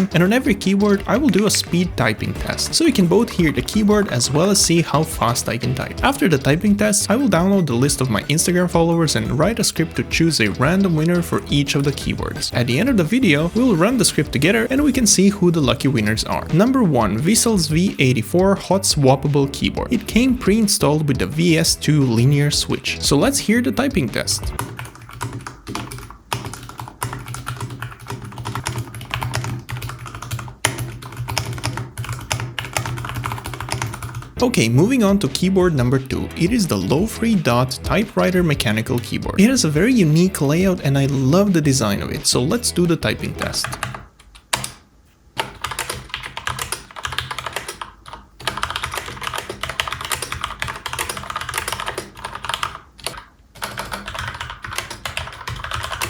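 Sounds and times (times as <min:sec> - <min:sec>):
mechanical keyboard typing: 0:00.0 - 0:18.7, 0:19.6 - 0:44.8, 0:45.4 - 0:56.0.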